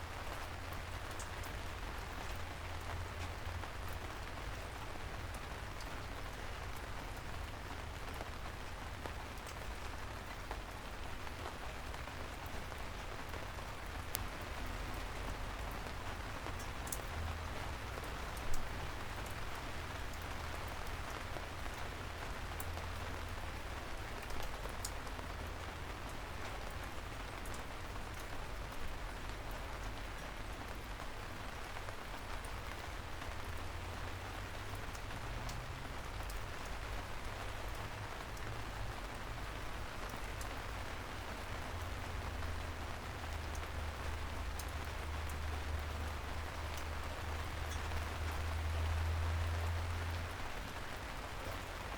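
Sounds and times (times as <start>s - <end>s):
gentle rain falling: 0.0s - 51.9s.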